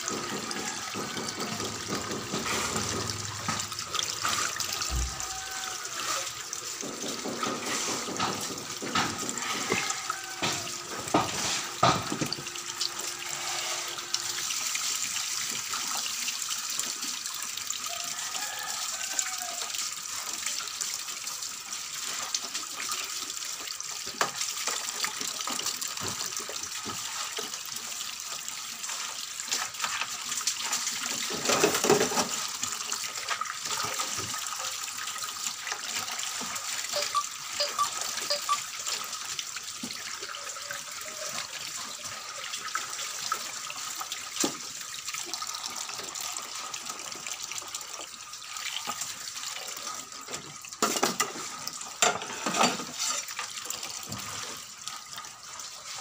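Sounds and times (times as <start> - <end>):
water running into steel sink: 0.0 - 56.0.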